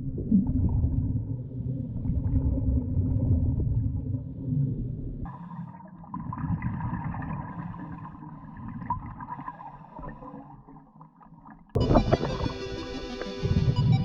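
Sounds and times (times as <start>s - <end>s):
low underwater rumble: 0.0s - 14.0s
water bubbling underwater: 0.0s - 14.0s.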